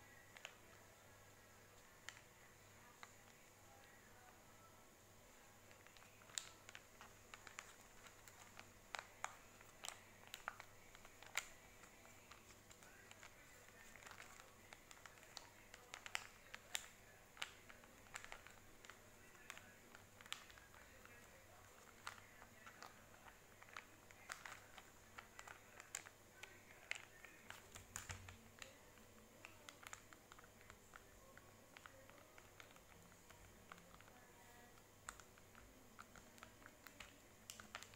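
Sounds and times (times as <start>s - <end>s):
handling clicks and crinkles: 0.1s - 4.7s, 5.3s - 37.9s.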